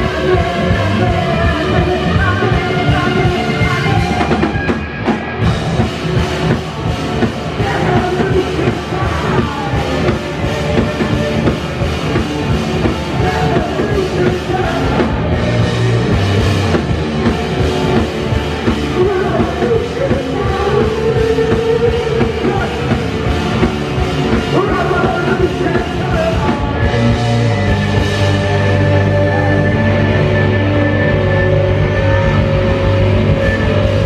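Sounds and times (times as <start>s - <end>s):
drum kit: 0.0s - 34.0s
electric guitars: 0.0s - 34.0s.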